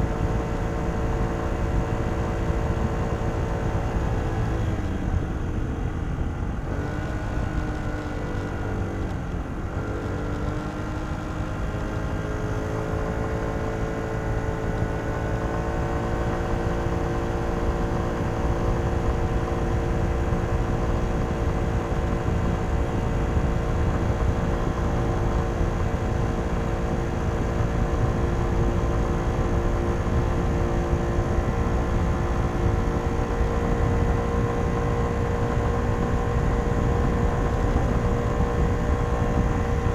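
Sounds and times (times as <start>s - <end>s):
scooter engine while riding: 0.0s - 39.9s
wind and road noise: 0.0s - 39.9s.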